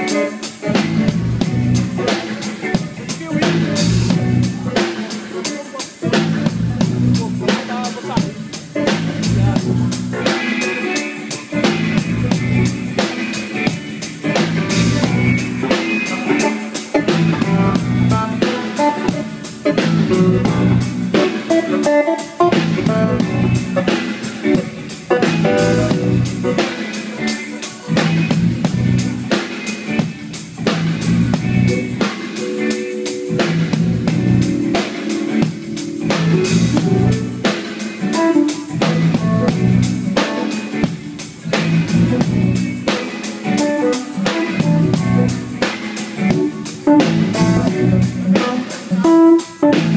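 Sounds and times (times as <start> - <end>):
drum kit beat: 0.0 - 49.9
electric guitar playing: 0.0 - 49.9.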